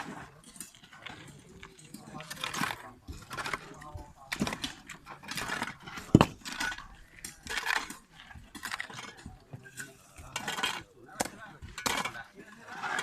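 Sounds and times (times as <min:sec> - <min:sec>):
digging tools scraping and knocking: 0:00.0 - 0:13.0.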